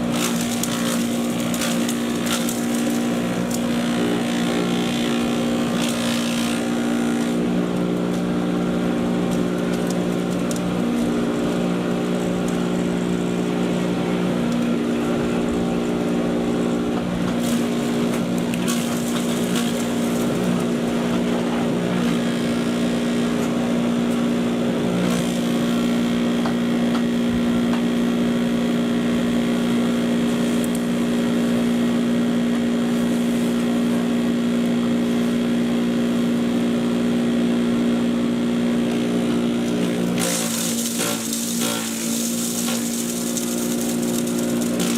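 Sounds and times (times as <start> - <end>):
electric chipper shredder motor hum: 0.0 - 44.9.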